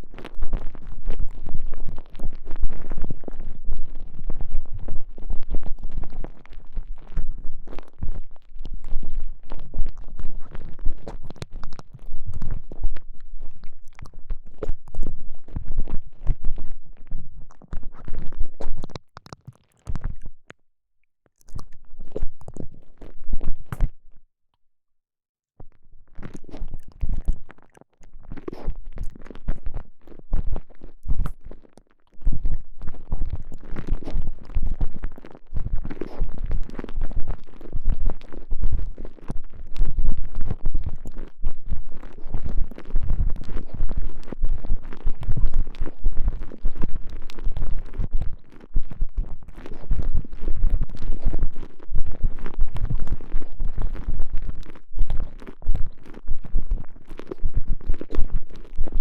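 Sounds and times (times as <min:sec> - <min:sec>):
elastic sleeve crackling and squelching: 0:00.0 - 0:20.5, 0:26.1 - 0:59.0.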